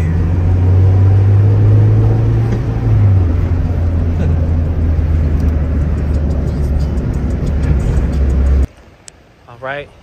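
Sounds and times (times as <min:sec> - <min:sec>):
car cabin engine drone: 0:00.0 - 0:08.7.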